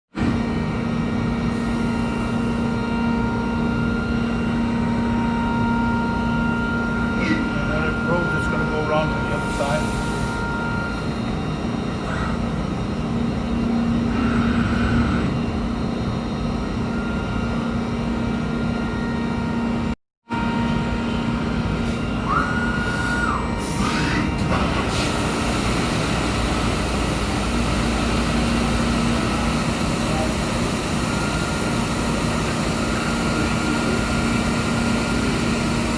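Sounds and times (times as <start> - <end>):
industrial machinery humming: 0.2 - 35.9.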